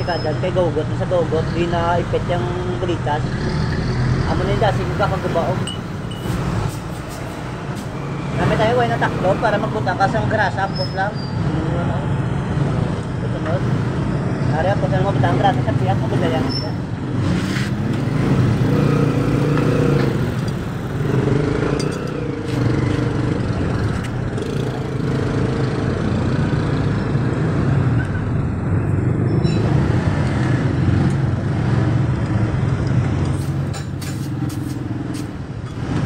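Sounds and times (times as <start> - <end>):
traffic engines humming: 0.0 - 36.0.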